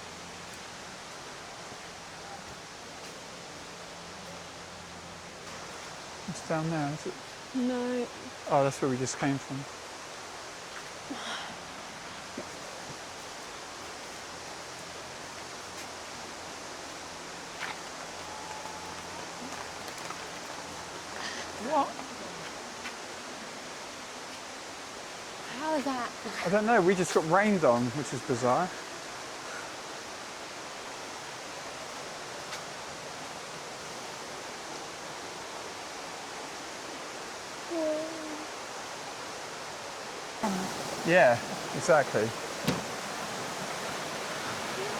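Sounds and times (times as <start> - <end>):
falling water rushing: 5.2 - 44.9.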